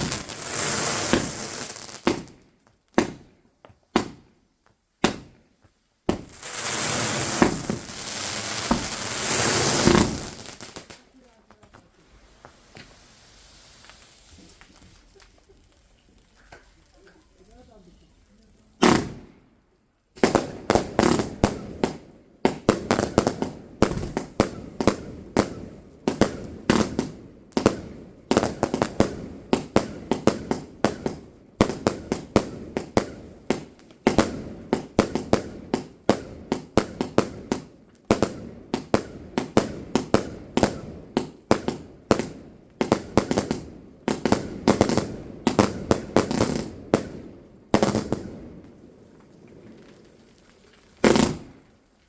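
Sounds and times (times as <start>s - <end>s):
fireworks bangs and crackles: 0.0s - 4.4s, 5.0s - 51.8s.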